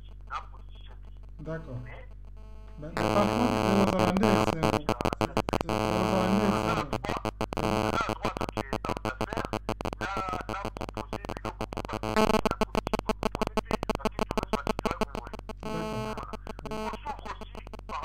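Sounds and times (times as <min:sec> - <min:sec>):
glitchy broken voice: 0:00.0 - 0:02.1, 0:02.7 - 0:18.0
steady low hum: 0:00.0 - 0:18.0.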